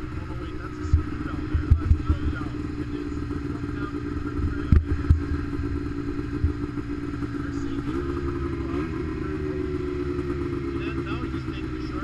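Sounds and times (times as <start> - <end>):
snowmobile engines idling: 0.0 - 12.0.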